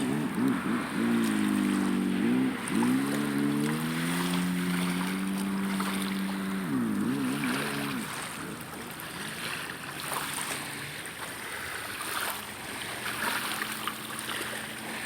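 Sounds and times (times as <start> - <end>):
distant boat motor hum: 0.0 - 15.0
light breeze: 0.0 - 15.0
water lapping: 0.0 - 15.0.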